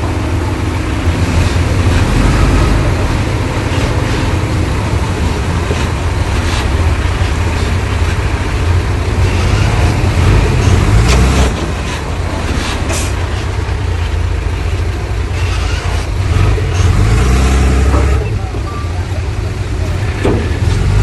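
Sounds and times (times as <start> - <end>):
heavy diesel engine rumble: 0.0 - 21.0.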